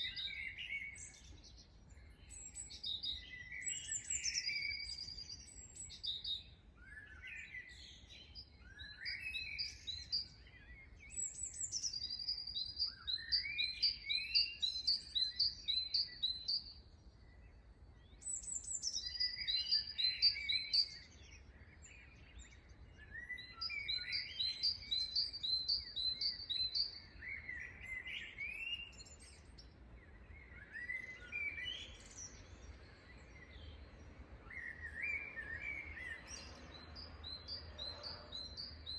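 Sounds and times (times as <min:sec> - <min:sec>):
bird repeating song phrase: 0:00.0 - 0:38.9.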